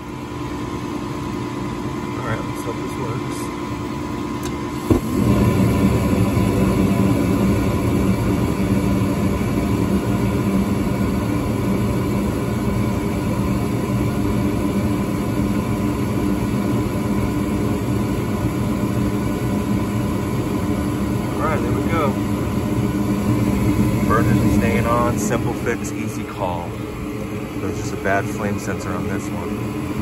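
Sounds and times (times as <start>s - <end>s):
blower humming: 0.0s - 30.0s
burner flames: 4.4s - 30.0s
furnace burners igniting thump: 4.4s - 30.0s.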